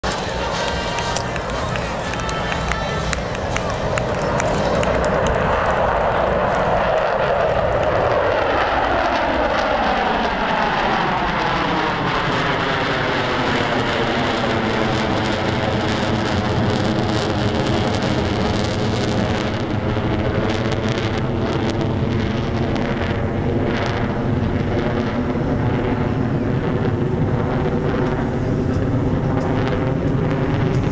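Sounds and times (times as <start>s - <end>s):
fighter jets flying past: 0.0s - 30.9s.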